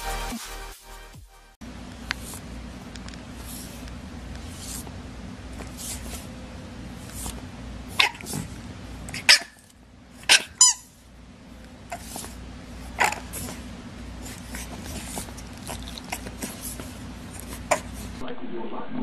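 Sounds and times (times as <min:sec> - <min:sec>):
steady low hum: 0:01.6 - 0:19.0.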